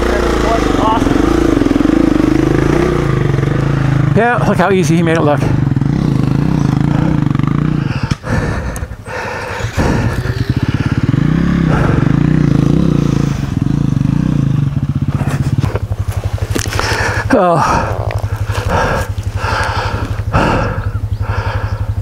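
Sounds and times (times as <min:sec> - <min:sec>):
dirt bike engine idling and revving: 0:00.0 - 0:22.0.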